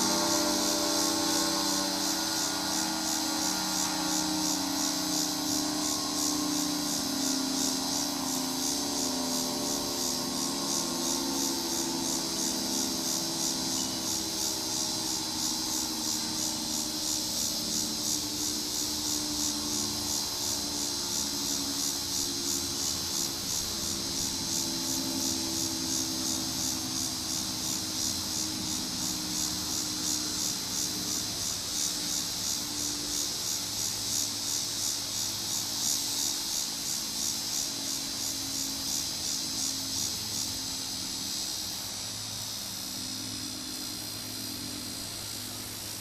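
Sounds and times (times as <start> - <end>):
pulsing high insect buzz: 0.0 - 46.0.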